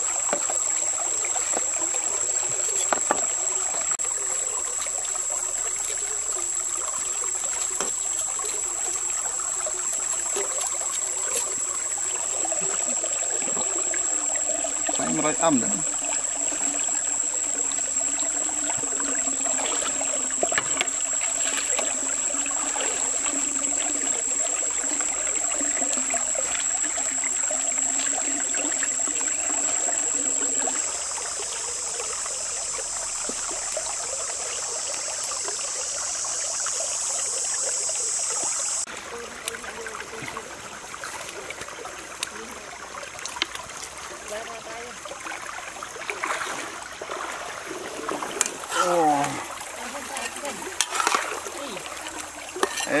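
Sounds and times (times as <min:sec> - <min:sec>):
water trickling: 0:00.0 - 0:53.0.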